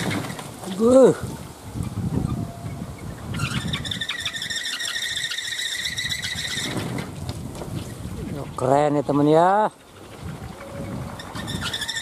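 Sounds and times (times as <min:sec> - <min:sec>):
low wind rumble: 0:00.0 - 0:12.0
wooden wind propeller squealing: 0:00.0 - 0:12.0.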